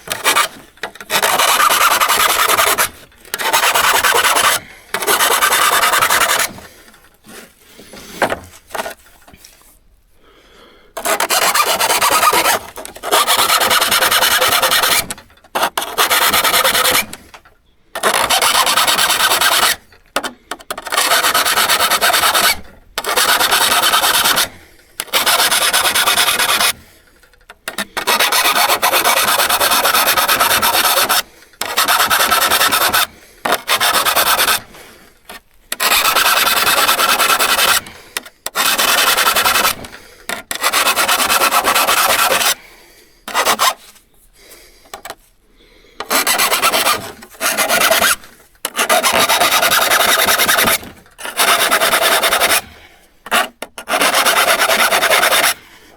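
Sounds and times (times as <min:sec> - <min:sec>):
rasping on saw blade: 0:00.0 - 0:09.6, 0:11.0 - 0:17.4, 0:18.0 - 0:42.7, 0:43.3 - 0:45.2, 0:46.0 - 0:55.7.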